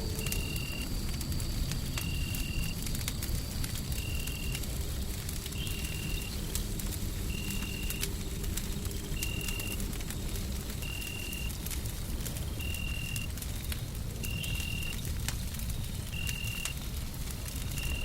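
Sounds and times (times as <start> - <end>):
low rumble of white noise: 0.0 - 18.0
wood fire crackling: 0.0 - 18.0.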